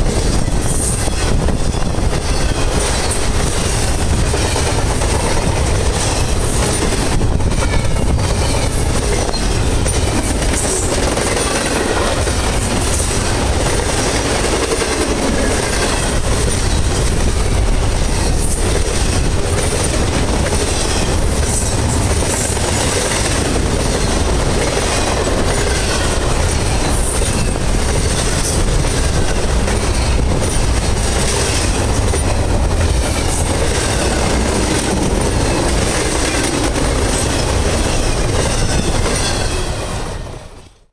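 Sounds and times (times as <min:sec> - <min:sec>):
wheels clacking over rail joints: 0:00.0 - 0:40.0
train wheels rumbling on rails: 0:00.0 - 0:40.9.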